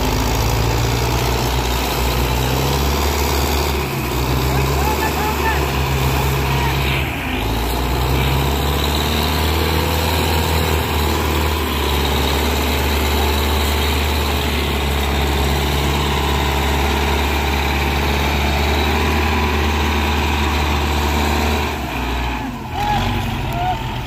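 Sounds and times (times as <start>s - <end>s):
tractor diesel engine running hard: 0.0s - 24.0s.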